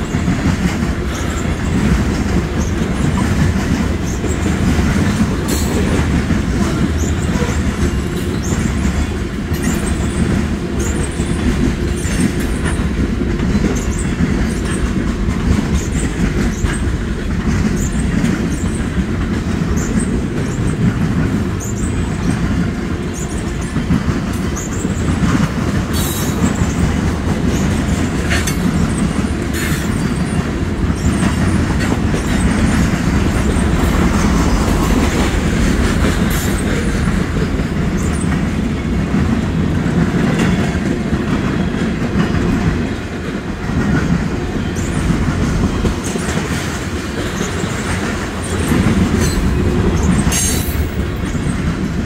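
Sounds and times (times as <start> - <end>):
clickety-clack over rail joints: 0.0 - 52.0
steel wheels rumbling on rails: 0.0 - 52.0.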